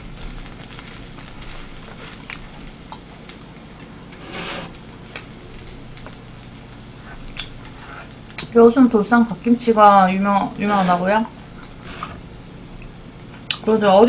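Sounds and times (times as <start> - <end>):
steady low hum: 0.0 - 14.0
chewing: 0.4 - 8.6, 10.6 - 13.7.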